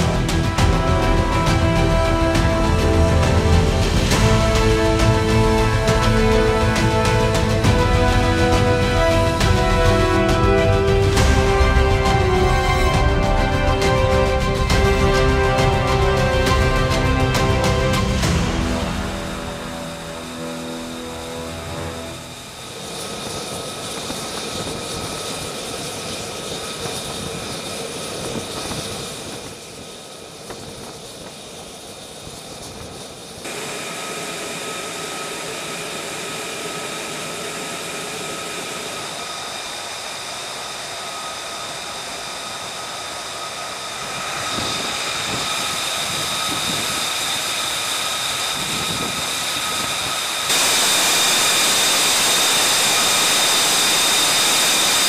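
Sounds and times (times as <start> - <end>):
jet engine rush with high whine: 0.0 - 55.0.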